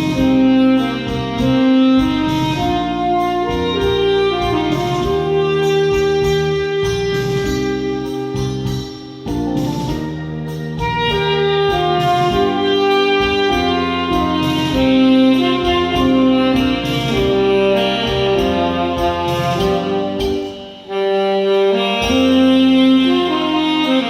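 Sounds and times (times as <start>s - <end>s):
backing track: 0.0s - 24.0s
solo wind instrument melody: 0.0s - 24.0s.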